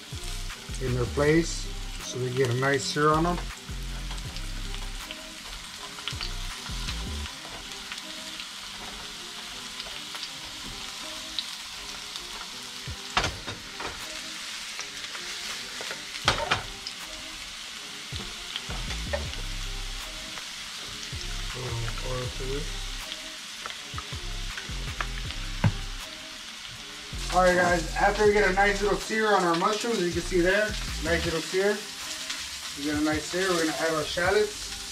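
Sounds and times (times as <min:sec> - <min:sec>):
mushrooms sizzling in oil: 0:00.0 - 0:34.9.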